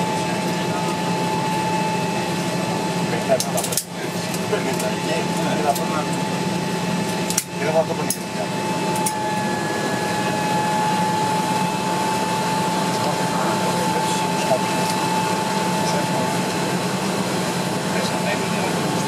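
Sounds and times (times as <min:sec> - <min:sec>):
turboprop engine droning: 0:00.0 - 0:19.0.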